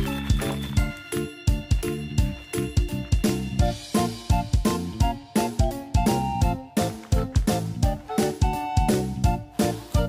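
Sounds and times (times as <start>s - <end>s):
upbeat music with steady beat: 0.0s - 10.0s.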